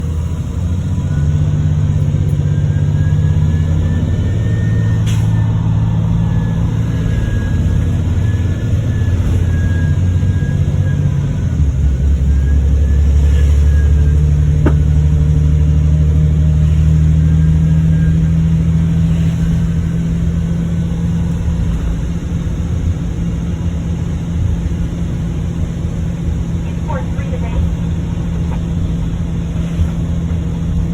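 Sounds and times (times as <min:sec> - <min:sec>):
diesel bus engine accelerating: 0:00.0 - 0:30.9
turbo whine: 0:00.0 - 0:30.9.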